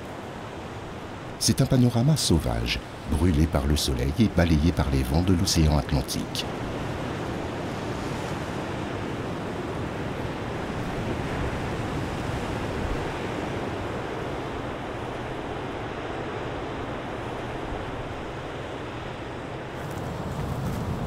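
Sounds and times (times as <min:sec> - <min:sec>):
ocean surf washing ashore: 0:00.0 - 0:21.0
wind: 0:00.0 - 0:21.0.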